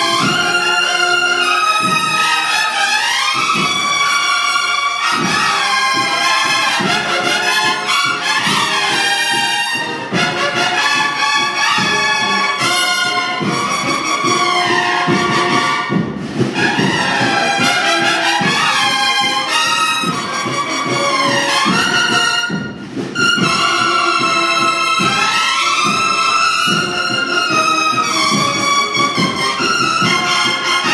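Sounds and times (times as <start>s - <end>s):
bugles playing melody: 0.0s - 30.9s
steady drum accompaniment: 0.0s - 30.9s.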